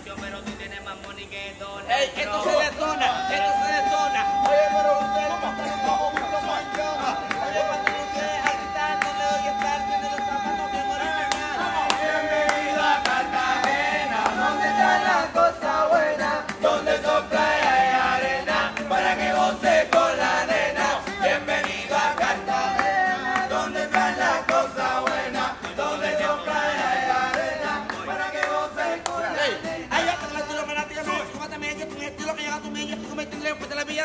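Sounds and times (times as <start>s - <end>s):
guitar: 0.0s - 34.0s
men singing and rapping: 0.0s - 34.0s
percussive beat: 3.7s - 32.0s.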